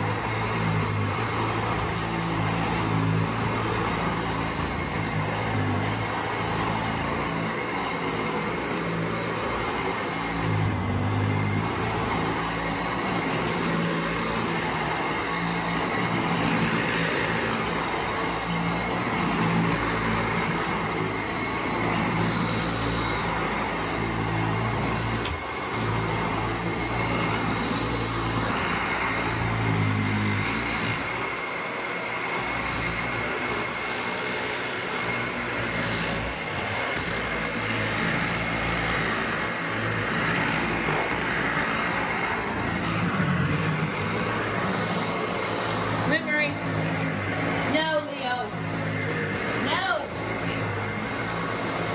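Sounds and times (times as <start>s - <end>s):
vacuum cleaner running on rug: 0.0s - 51.9s.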